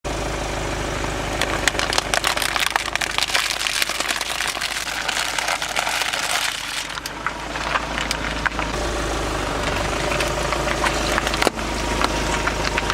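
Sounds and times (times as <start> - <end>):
car engine idling: 0.1 - 12.9
objects cracking under tyre: 1.0 - 12.9.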